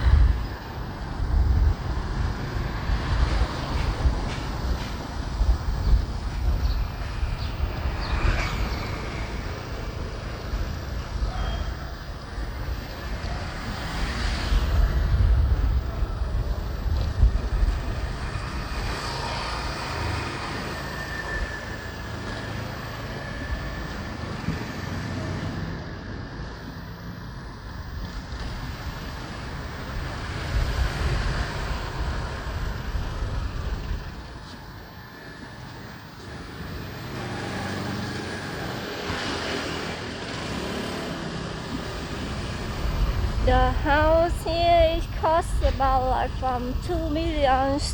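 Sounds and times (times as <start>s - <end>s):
wind buffeting microphone: 0.0s - 26.4s, 27.2s - 38.0s, 38.6s - 47.9s
road and traffic noise: 0.0s - 47.9s.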